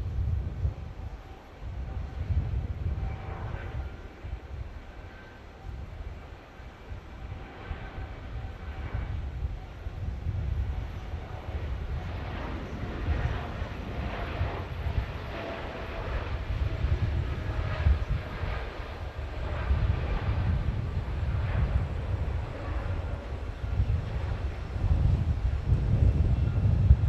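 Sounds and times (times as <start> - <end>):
jet engines running: 0.1 - 27.0.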